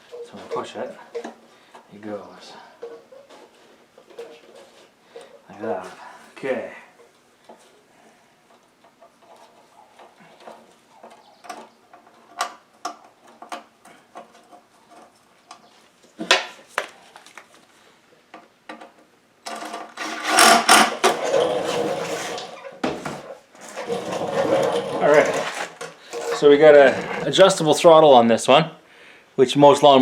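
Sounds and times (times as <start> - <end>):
scraping and rustling handling noise: 0.0 - 20.4, 21.0 - 27.9.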